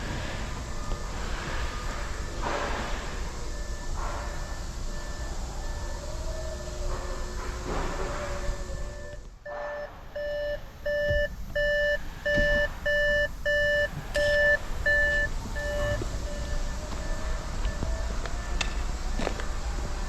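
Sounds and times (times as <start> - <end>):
electronic warning beeps: 0.0 - 20.0.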